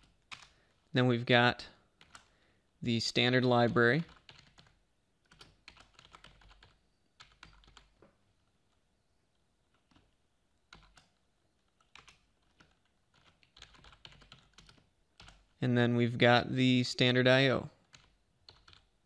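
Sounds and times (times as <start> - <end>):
faint keyboard typing: 0.0 - 1.0, 1.8 - 2.4, 3.2 - 15.6, 17.8 - 19.0.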